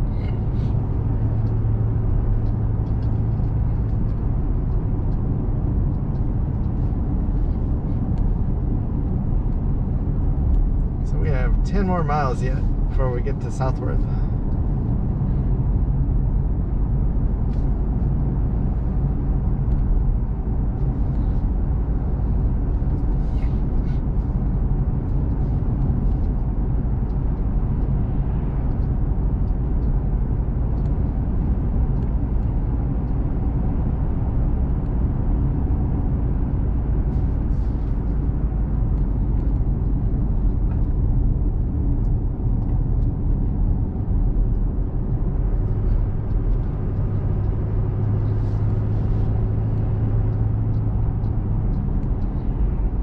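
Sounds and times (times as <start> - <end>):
truck engine and road noise: 0.0 - 53.0.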